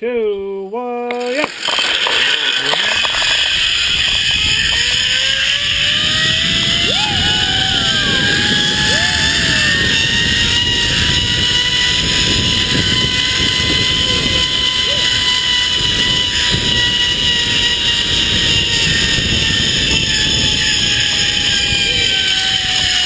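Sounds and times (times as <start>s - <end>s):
zipline pulleys whining on cable: 1.1s - 23.0s
wind on camera microphone: 1.4s - 23.0s.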